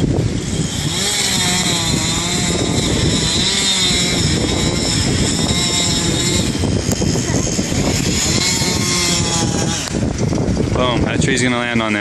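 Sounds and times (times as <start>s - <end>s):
chainsaw running: 0.0s - 10.8s.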